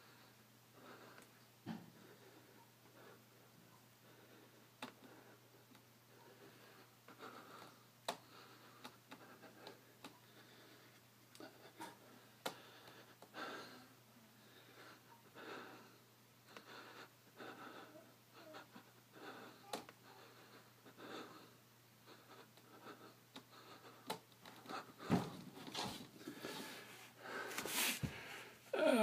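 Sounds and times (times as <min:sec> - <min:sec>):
man breathing heavily: 0:00.0 - 0:29.0.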